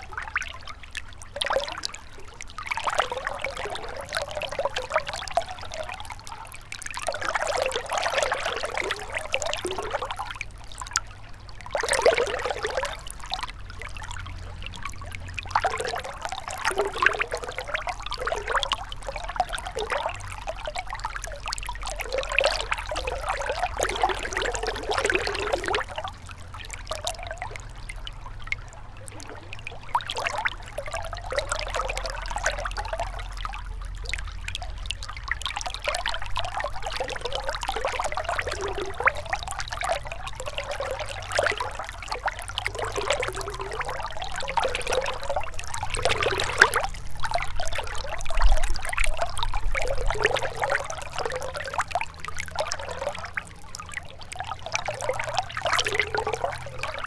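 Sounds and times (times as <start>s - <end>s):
river trickling and gurgling: 0.0s - 57.0s
steady low rumble: 0.0s - 57.0s.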